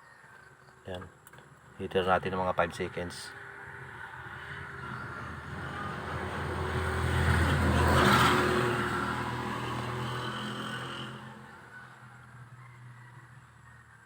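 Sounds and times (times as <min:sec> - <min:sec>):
vehicle passing by: 0:01.9 - 0:13.6.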